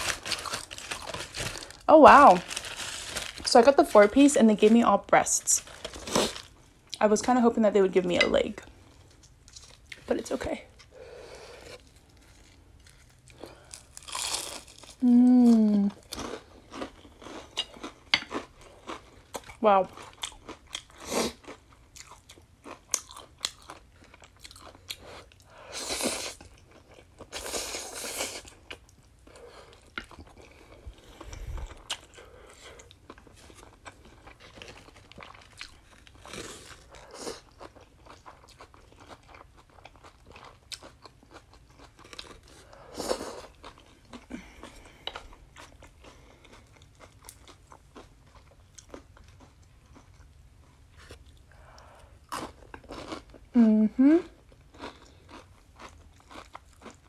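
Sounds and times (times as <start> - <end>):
person chewing crunchy food: 0.0 - 3.5, 5.6 - 7.0, 8.6 - 53.6, 54.3 - 57.0.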